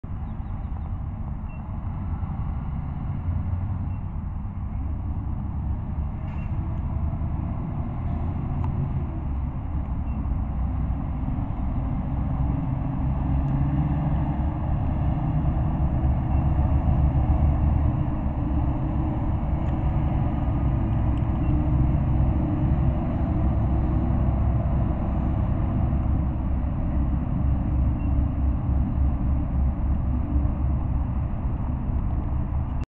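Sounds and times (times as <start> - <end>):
road traffic rumble: 0.0 - 32.9
tanker truck passing: 0.1 - 32.8.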